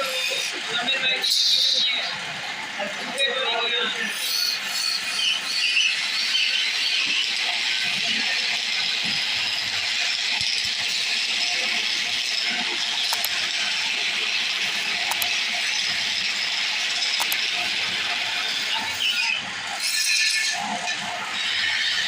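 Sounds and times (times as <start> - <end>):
wood lathe cutting with scraping hiss: 0.0 - 22.0.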